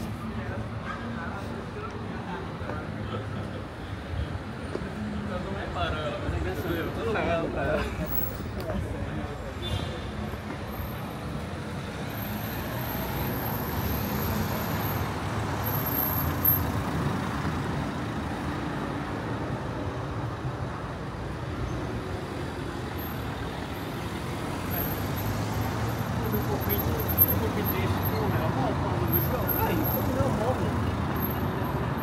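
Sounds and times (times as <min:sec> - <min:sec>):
city street traffic: 0:00.0 - 0:32.0.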